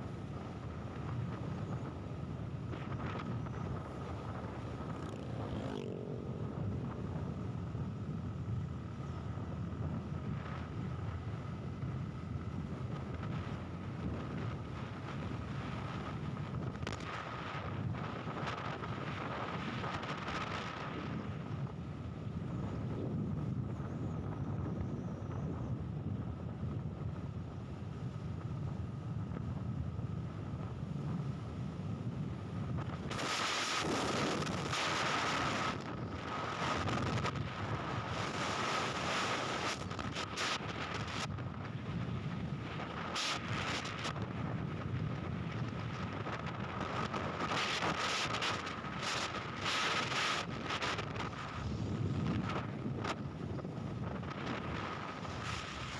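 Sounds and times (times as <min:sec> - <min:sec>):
faint steady whine: 0:00.0 - 0:55.9
moving vehicle rumble: 0:00.0 - 0:55.9
wind buffeting microphone: 0:00.2 - 0:55.9.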